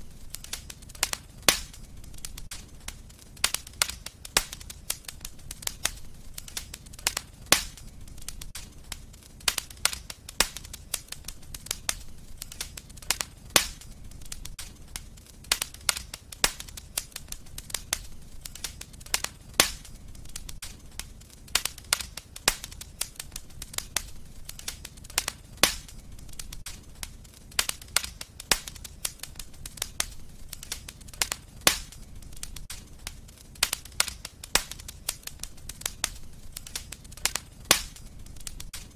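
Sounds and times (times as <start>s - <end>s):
sharp fire pops: 0.0s - 38.9s
wood fire crackling: 0.0s - 38.9s.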